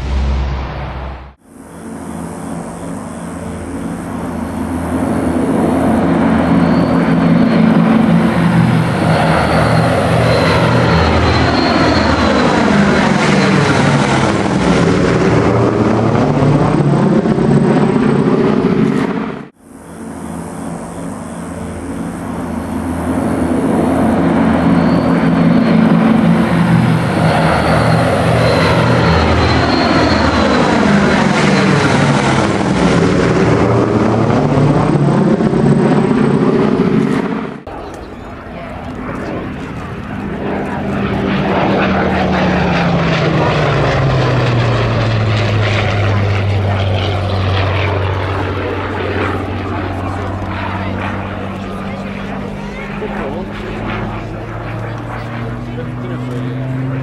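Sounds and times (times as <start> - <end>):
propeller aircraft flying past: 0.0 - 57.0.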